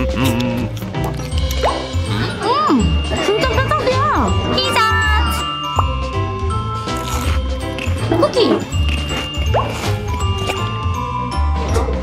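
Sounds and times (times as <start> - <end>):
cheerful bell-like music: 1.1 - 12.0.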